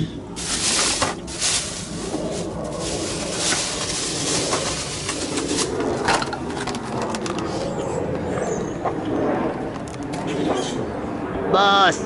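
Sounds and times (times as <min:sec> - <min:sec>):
airplane droning overhead: 0:00.0 - 0:12.0.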